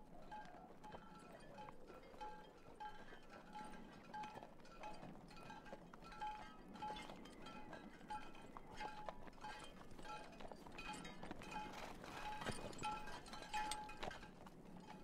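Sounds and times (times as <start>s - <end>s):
soft hoof steps: 0.0s - 15.0s.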